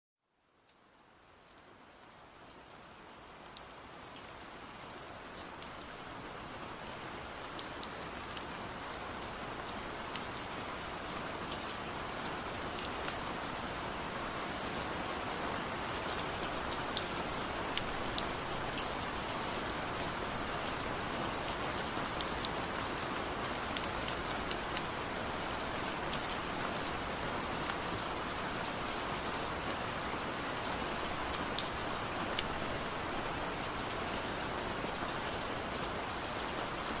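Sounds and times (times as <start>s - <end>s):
rain pattering: 0.4s - 37.0s.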